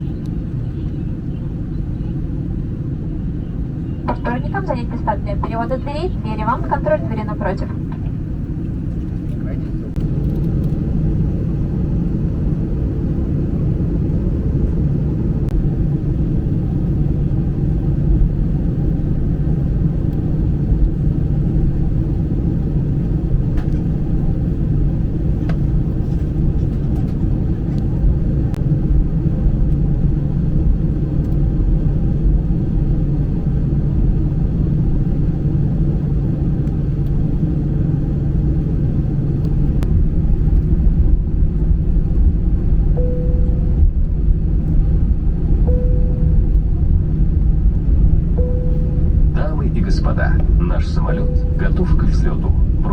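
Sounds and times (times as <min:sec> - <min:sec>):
airliner cabin rumble and hum: 0:00.0 - 0:52.9.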